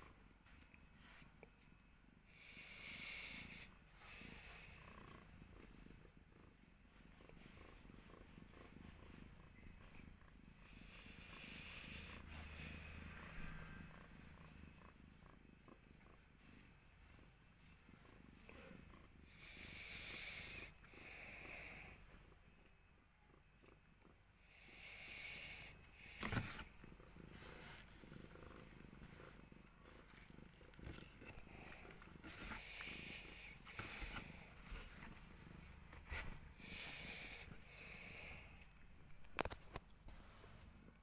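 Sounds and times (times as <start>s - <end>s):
cat purring faintly: 0.0s - 41.0s.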